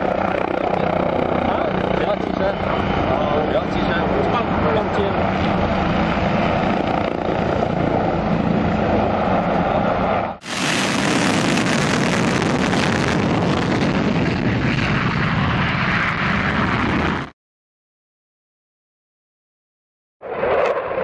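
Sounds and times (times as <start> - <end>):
aircraft engine drone: 0.0 - 17.3.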